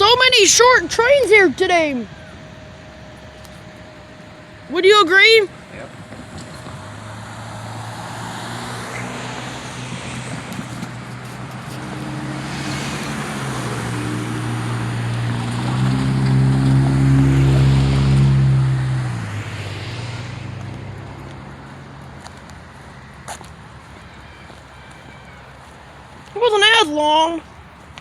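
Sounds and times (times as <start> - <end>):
heavy engine hum passing by: 0.0 - 28.0.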